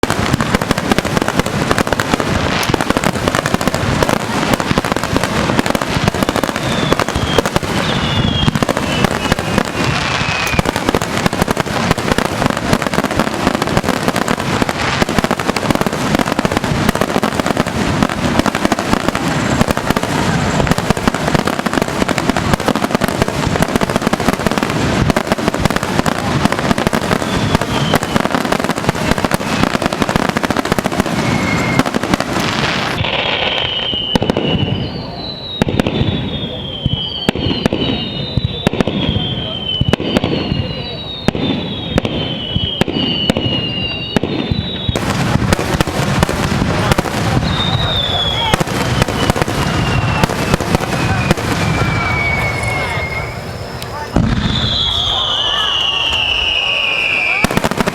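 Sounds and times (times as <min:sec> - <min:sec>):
falling firework whistles: 0:00.0 - 0:57.9
fireworks bangs and crackling: 0:00.0 - 0:57.9.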